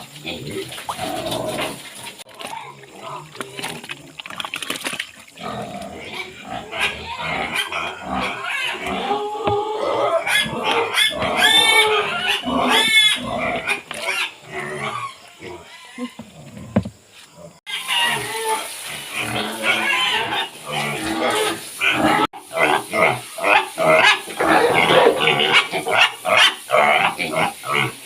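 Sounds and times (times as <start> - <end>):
pigs grunting and squealing: 0.0 - 28.0.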